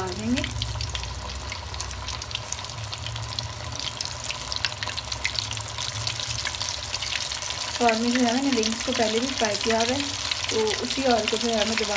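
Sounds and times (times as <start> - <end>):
chicken deep-frying in oil: 0.0 - 11.9.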